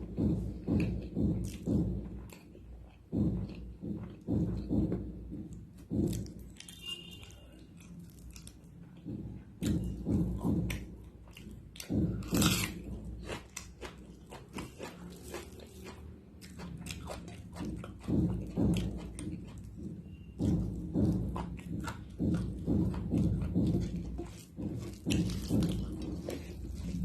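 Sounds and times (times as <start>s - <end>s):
person chewing and biting food: 0.0s - 4.7s, 7.7s - 27.0s.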